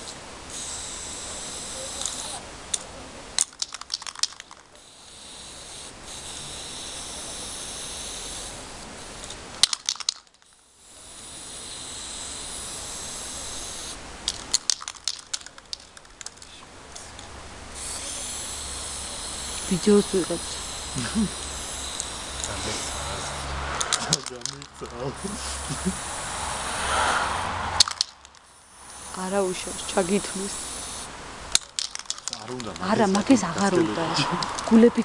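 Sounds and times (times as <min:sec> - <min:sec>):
spray can hissing: 0:00.0 - 0:02.4, 0:03.4 - 0:35.0
spray can rattling when shaken: 0:00.5 - 0:02.4, 0:03.4 - 0:08.4, 0:09.2 - 0:10.5, 0:11.2 - 0:25.0, 0:27.8 - 0:35.0.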